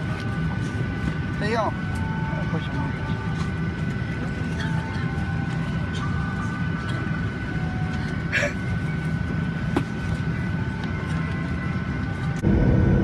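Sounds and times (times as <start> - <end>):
cabin air-conditioning hum: 0.0 - 13.0
faint constant whine: 0.0 - 13.0.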